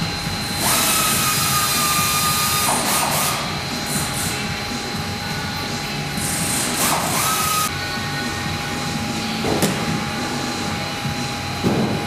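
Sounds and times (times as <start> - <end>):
machinery hum with whining tones: 0.0 - 12.0.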